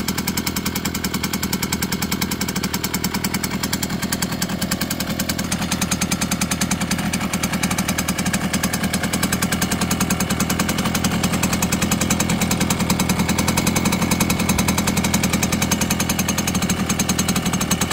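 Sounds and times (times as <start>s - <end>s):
moped engine idling: 0.0s - 17.9s.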